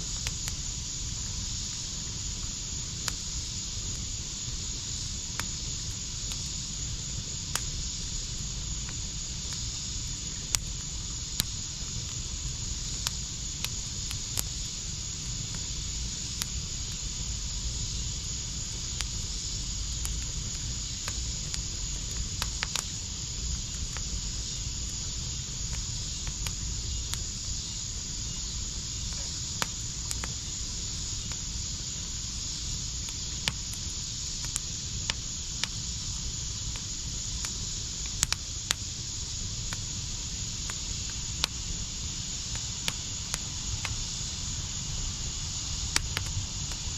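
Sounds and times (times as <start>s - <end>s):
steady high hiss: 0.0s - 46.9s
wood fire crackling: 0.1s - 46.9s.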